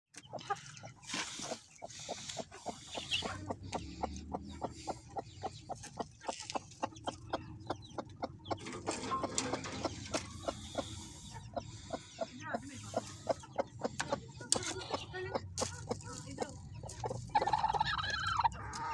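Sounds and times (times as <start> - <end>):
hen clucking: 0.1 - 18.9.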